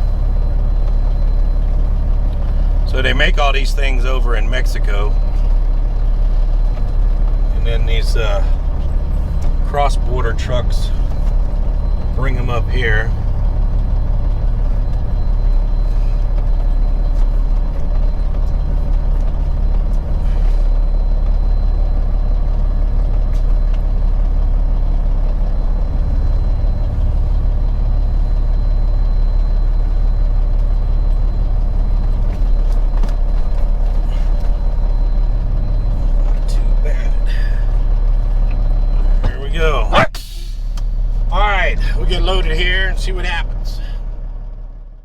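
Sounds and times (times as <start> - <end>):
truck engine droning: 0.0 - 45.0.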